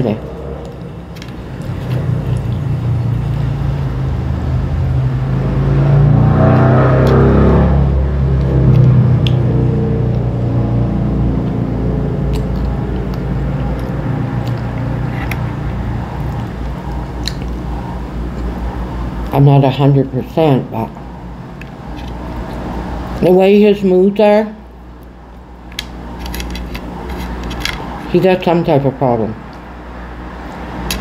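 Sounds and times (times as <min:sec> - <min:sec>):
engine rumble: 0:00.0 - 0:31.0.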